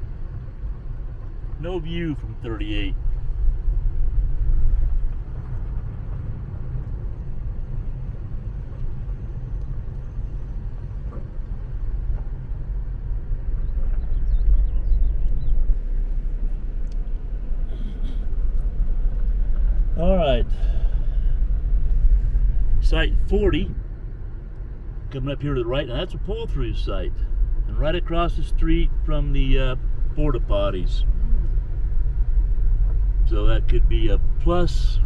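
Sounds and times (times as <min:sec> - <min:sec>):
car engine: 0:00.0 - 0:35.0.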